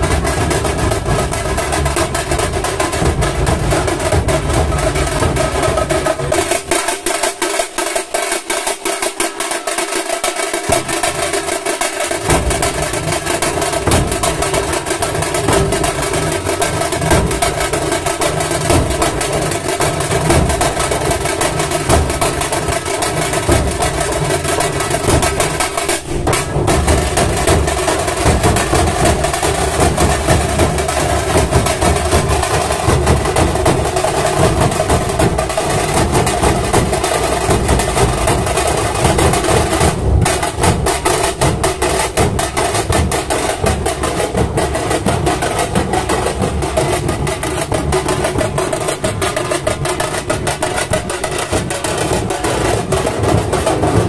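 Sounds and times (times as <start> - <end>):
drum troupe drumming: 0.0 - 54.0.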